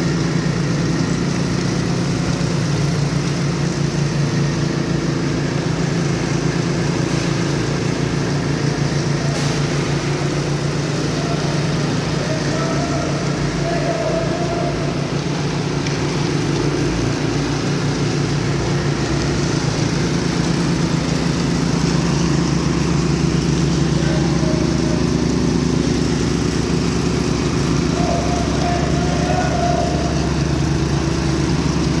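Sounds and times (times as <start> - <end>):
power trowel engine running: 0.0 - 32.0.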